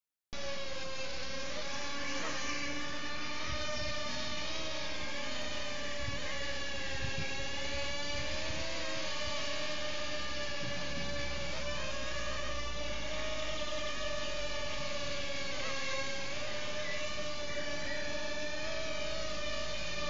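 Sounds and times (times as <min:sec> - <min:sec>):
quadcopter propellers buzzing: 0:00.4 - 0:20.0.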